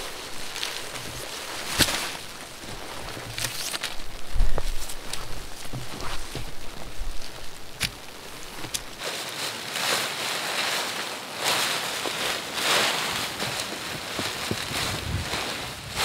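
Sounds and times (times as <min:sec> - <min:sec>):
tent fabric rustling and flapping: 0:00.0 - 0:16.0.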